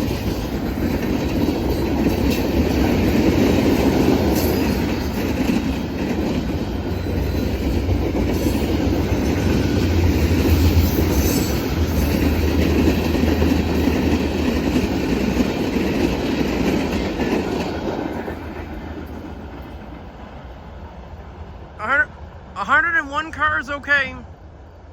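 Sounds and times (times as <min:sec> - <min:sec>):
wheels clacking over rails: 0:00.0 - 0:20.3
freight train rumbling past: 0:00.0 - 0:24.9.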